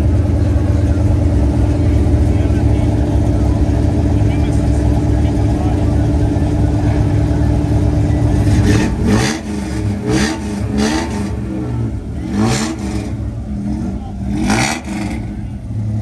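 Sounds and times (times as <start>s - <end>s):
truck engine idling and revving: 0.0s - 16.0s.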